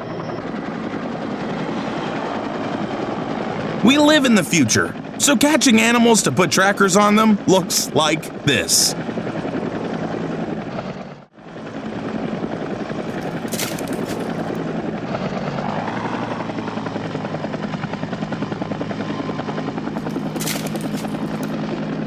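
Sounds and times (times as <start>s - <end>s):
helicopter engine drone: 0.0s - 22.0s
helicopter rotor chopping: 0.0s - 22.0s.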